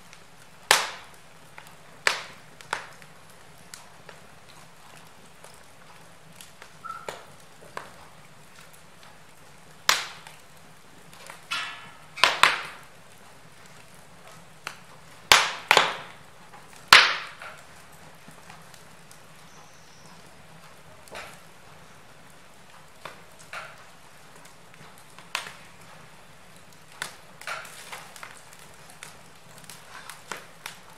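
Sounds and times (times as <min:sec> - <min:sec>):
faint steady hiss: 0:00.0 - 0:30.9
fire popping and cracking: 0:00.0 - 0:30.9.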